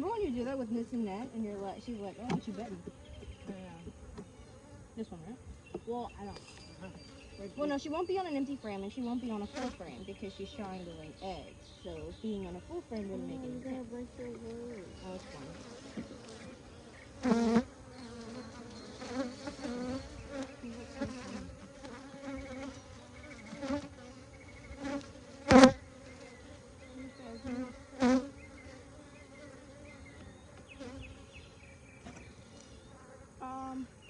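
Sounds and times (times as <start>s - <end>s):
bees buzzing: 0.0s - 34.0s
bees flying past microphone: 6.3s - 33.8s.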